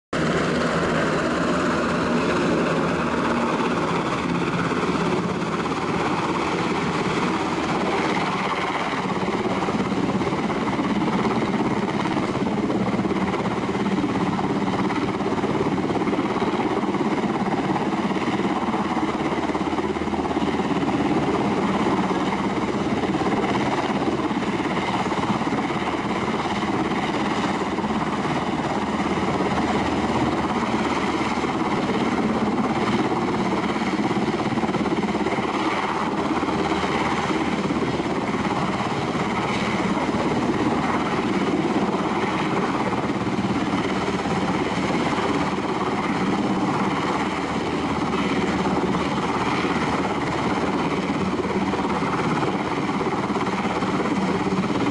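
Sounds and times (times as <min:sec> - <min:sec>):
helicopter hovering: 0:00.1 - 0:54.9.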